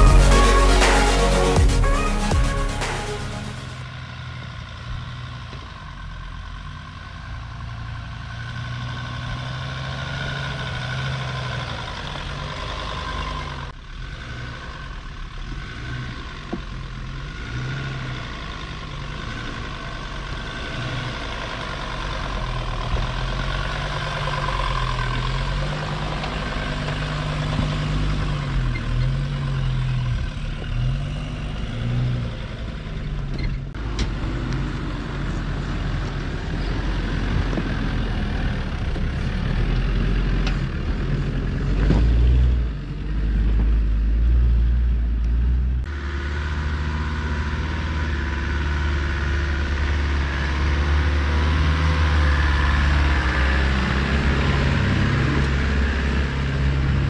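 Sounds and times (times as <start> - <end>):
diesel engine pulling uphill: 0.0 - 57.0.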